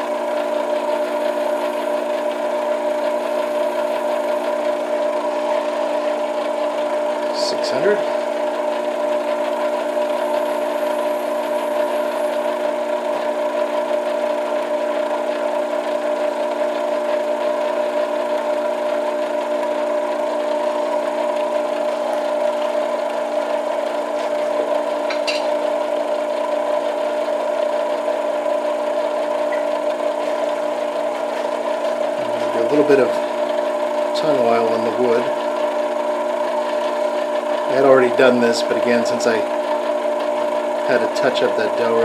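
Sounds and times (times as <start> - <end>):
metal lathe whine: 0.0 - 42.0.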